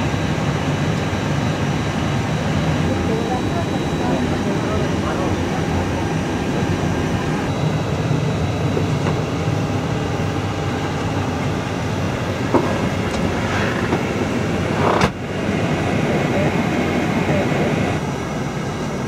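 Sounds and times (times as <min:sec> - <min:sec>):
cockpit hum and air rush: 0:00.0 - 0:19.0.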